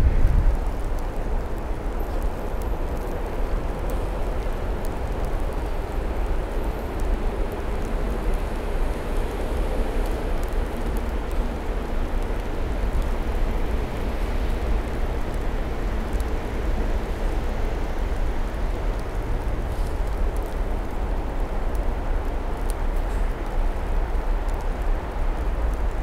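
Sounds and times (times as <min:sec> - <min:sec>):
wind and blowing snow: 0:00.0 - 0:26.0.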